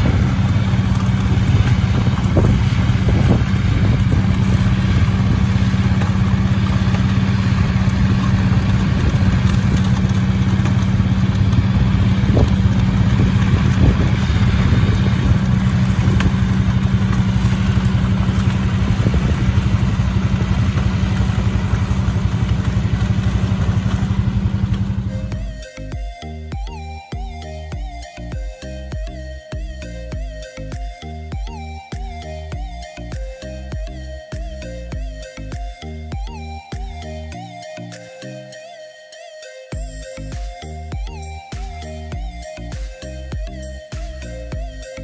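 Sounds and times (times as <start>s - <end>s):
tractor diesel engine running: 0.0s - 38.6s, 39.7s - 45.0s.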